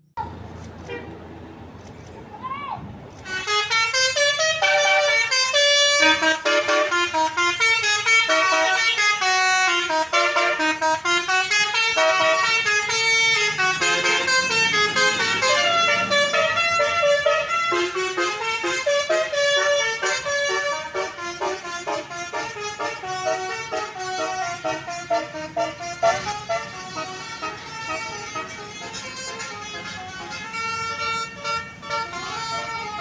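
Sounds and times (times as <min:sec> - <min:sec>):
musical air horn playing a tune: 0:03.3 - 0:33.0.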